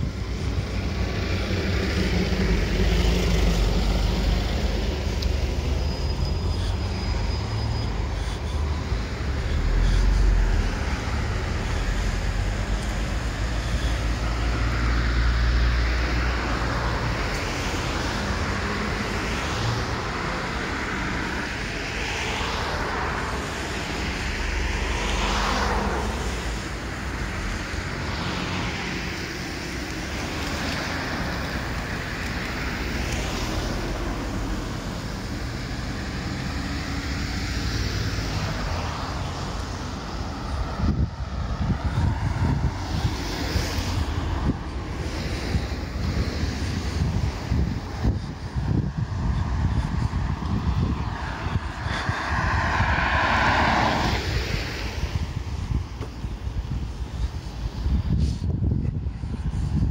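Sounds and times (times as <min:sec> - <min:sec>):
cars passing: 0:00.0 - 0:59.9
wind rumbling on microphone: 0:00.0 - 0:59.9.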